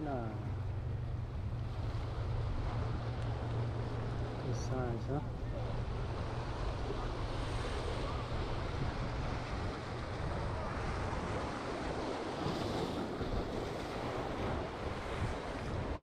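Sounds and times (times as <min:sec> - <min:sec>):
wind buffeting microphone: 0:00.0 - 0:16.0
waves washing over rocks: 0:01.5 - 0:16.0.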